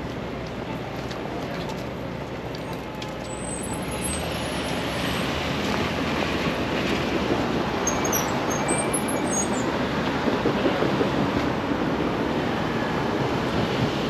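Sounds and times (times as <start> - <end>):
cars passing on street: 0.0 - 14.0.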